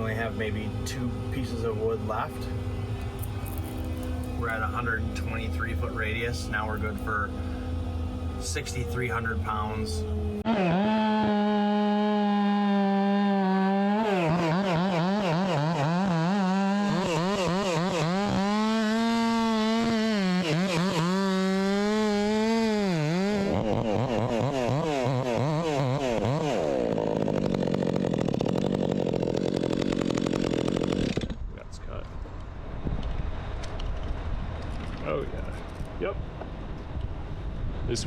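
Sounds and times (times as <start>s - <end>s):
chainsaw cutting through trunk: 0.0s - 31.5s.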